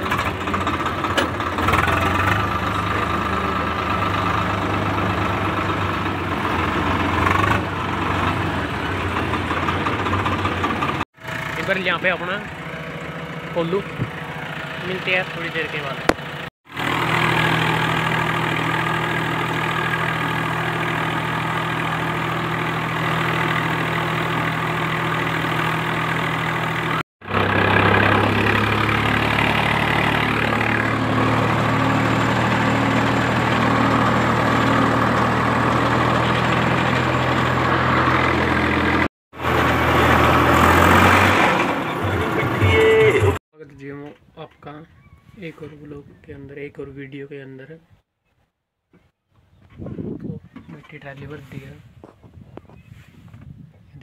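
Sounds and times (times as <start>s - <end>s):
tractor diesel engine running: 0.0s - 43.4s.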